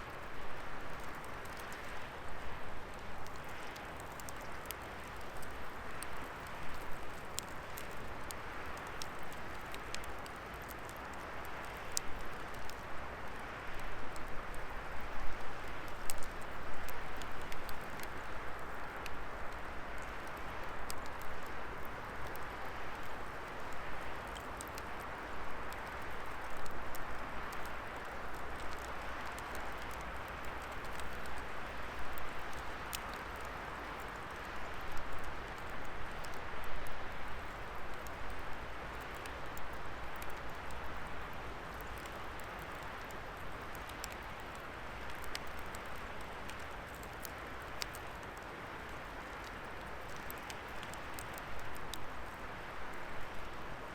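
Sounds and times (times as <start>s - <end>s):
wood crackling and popping: 0.1s - 53.6s.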